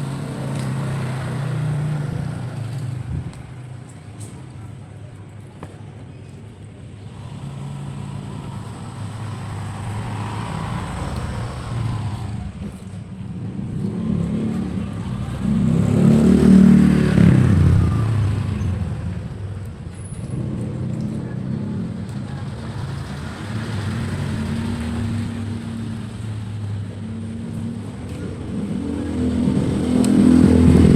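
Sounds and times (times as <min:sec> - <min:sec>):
vehicle engine hum: 0:00.0 - 0:30.9.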